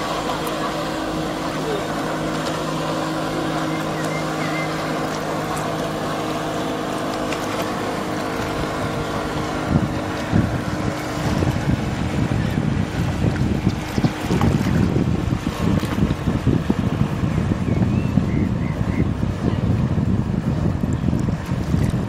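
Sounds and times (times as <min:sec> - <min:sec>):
motorboat engine running: 0:00.0 - 0:22.0
water rushing: 0:00.0 - 0:22.0
wind buffeting microphone: 0:00.0 - 0:22.0.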